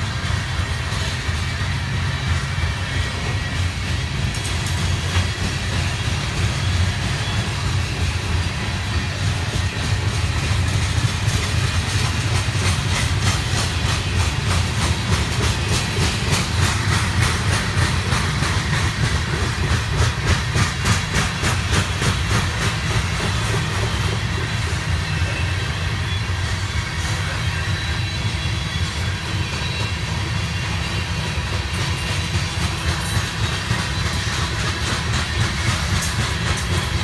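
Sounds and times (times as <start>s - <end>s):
wheels clickety-clack over joints: 0.0s - 25.8s, 26.9s - 37.0s
train wheels rumbling on rail: 0.0s - 37.0s.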